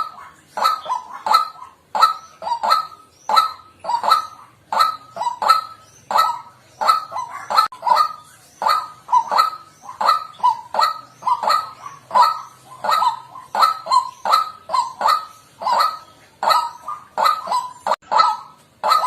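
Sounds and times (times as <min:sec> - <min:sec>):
waterhen calling harshly: 0:00.0 - 0:19.0.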